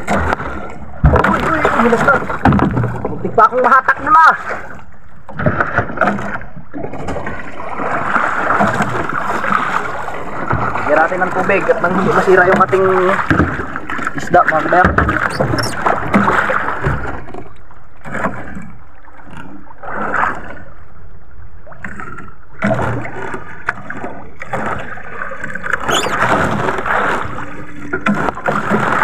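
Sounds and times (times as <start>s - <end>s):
sea water splashing against boat hull: 0.0s - 20.9s, 21.6s - 29.0s.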